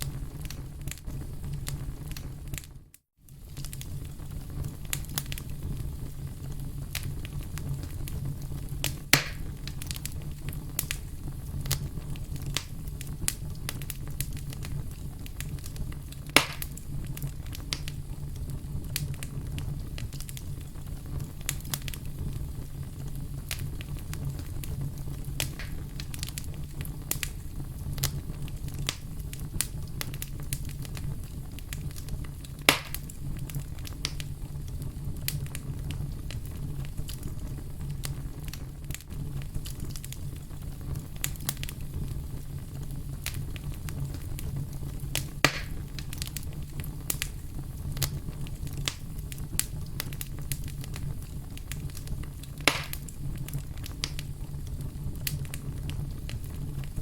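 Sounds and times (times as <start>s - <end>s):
fireplace fire crackling: 0.0s - 57.0s
loud fire pops: 0.0s - 57.0s.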